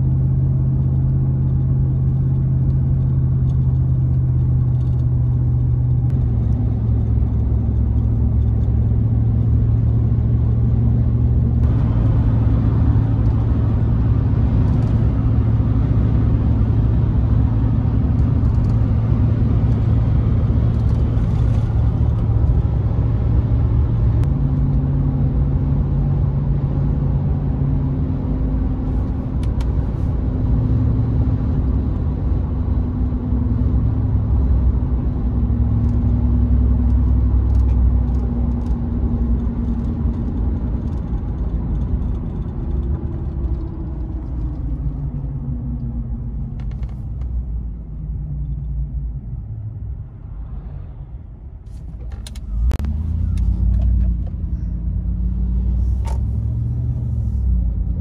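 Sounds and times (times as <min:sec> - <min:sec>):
car engine drone: 0:00.0 - 0:58.0
road and wind hiss: 0:00.0 - 0:58.0.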